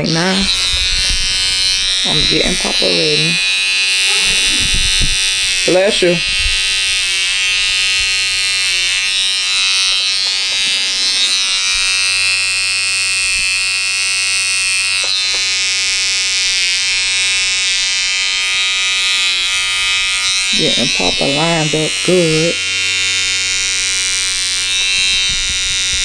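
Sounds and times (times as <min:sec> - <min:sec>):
electric hair trimmer buzzing: 0:00.0 - 0:26.0.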